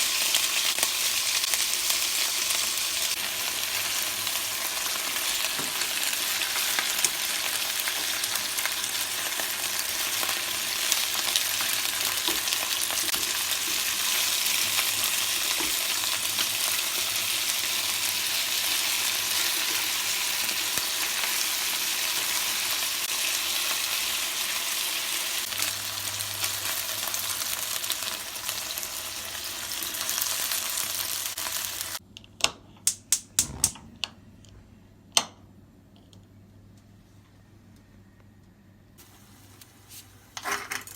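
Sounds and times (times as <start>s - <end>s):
food sizzling in a pan: 0.0s - 32.0s, 39.0s - 40.9s.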